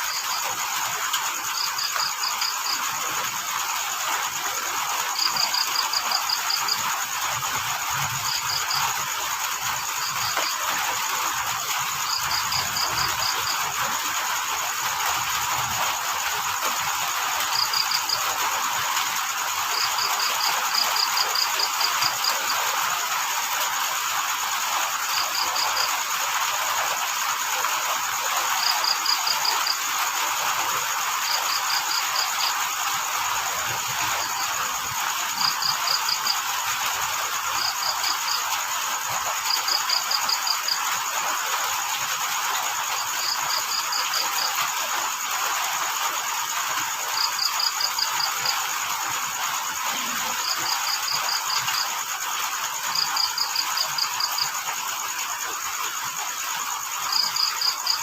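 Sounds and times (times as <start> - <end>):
cricket chirping: 0.0 - 58.0
rain hiss: 0.0 - 58.0.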